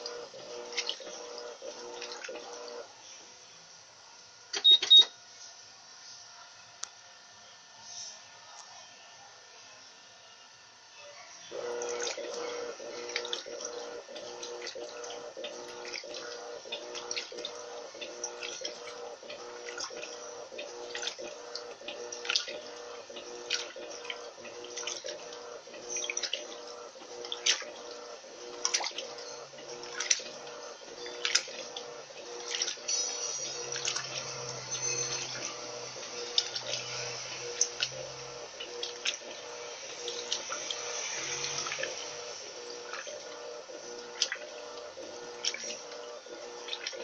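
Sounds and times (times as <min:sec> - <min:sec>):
water sloshing and splashing: 0:00.0 - 0:02.8, 0:11.7 - 0:47.0
washing machine motor hum: 0:00.0 - 0:47.0.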